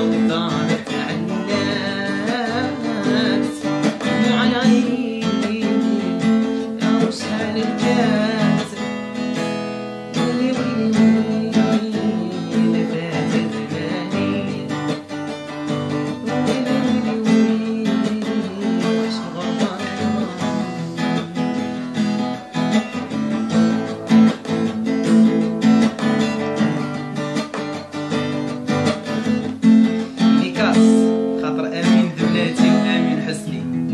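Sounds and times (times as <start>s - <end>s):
acoustic guitar strumming: 0.0s - 33.9s.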